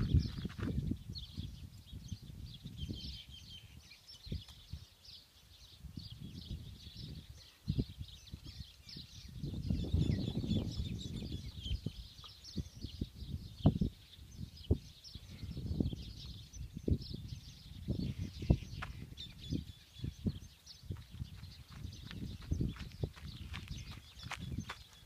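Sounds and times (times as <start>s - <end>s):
small birds chirping: 0.0s - 25.0s
wind buffeting microphone: 0.0s - 25.0s.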